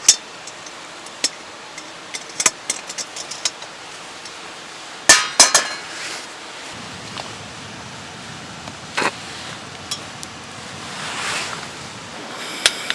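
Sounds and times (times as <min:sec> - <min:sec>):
steady background hiss: 0:00.0 - 0:12.9.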